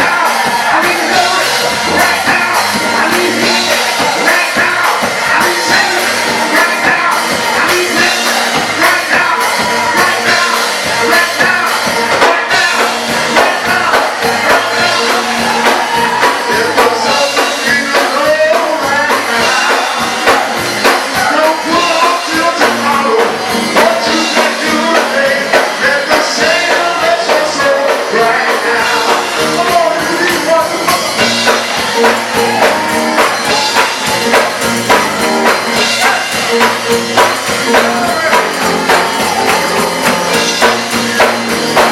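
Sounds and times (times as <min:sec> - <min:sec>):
gospel choir singing: 0:00.0 - 0:41.9
live church band: 0:00.0 - 0:41.9
tambourine shaken: 0:00.0 - 0:41.9.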